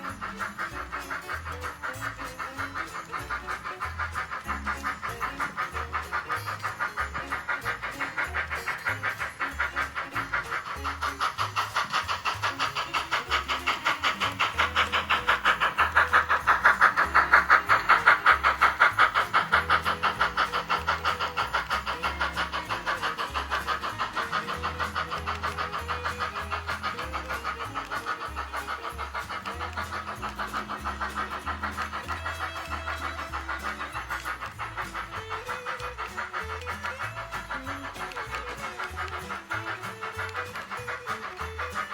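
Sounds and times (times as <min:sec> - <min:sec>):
model train clattering: 0:00.0 - 0:41.9.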